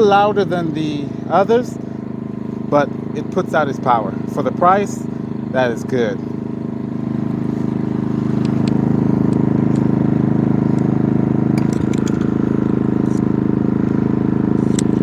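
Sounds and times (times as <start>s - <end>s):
generator running: 0.0s - 15.0s.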